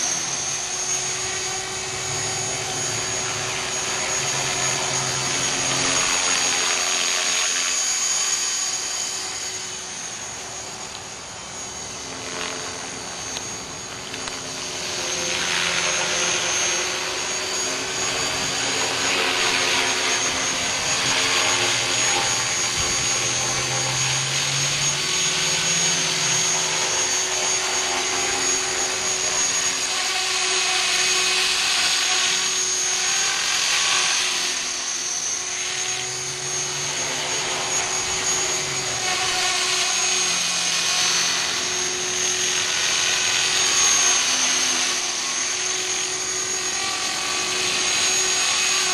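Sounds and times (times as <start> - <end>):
rc helicopter motor whine: 0.0 - 48.9.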